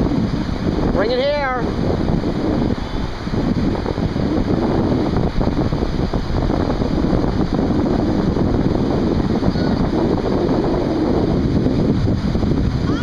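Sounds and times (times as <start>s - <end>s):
breaking surf: 0.0s - 13.0s
wind buffeting microphone: 0.0s - 13.0s.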